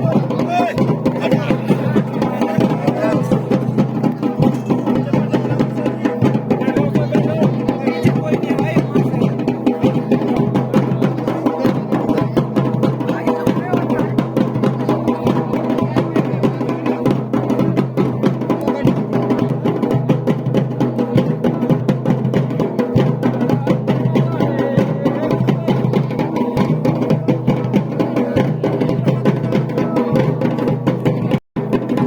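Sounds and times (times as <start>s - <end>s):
fast steady drumming: 0.0s - 32.0s.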